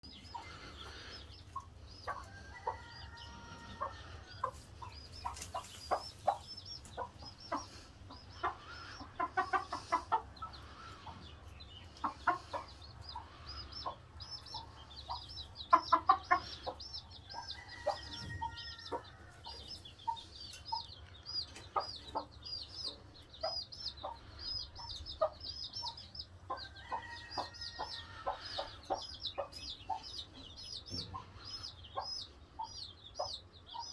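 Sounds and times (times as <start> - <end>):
chickens clucking: 0.0 - 33.9.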